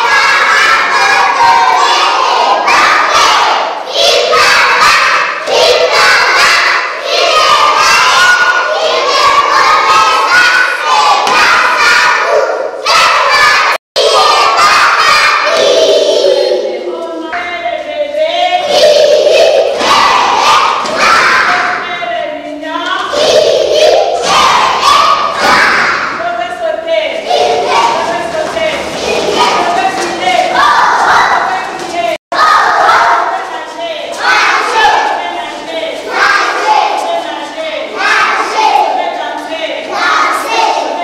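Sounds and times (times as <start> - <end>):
children chanting in unison: 0.0 - 22.2, 22.8 - 41.0.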